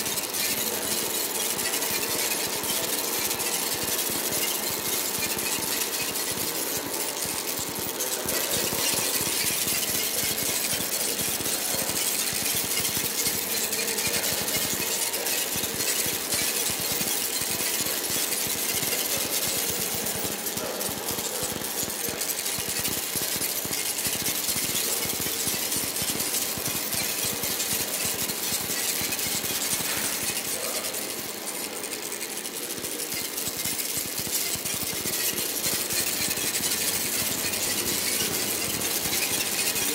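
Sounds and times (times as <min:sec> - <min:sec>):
machine-like crackle and buzzing: 0:00.0 - 0:39.9.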